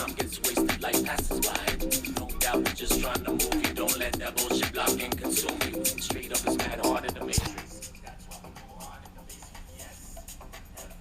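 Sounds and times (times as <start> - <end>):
music with vocals and beat: 0.0 - 11.0.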